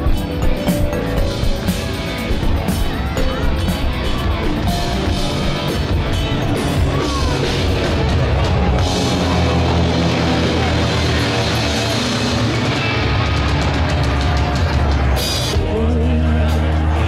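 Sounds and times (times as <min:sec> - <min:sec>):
rock music with drums: 0:00.0 - 0:17.0.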